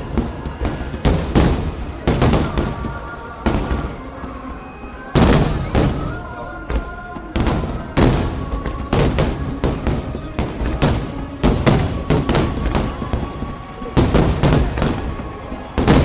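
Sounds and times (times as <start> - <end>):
fireworks shells bursting: 0.0 - 4.1, 5.2 - 16.0.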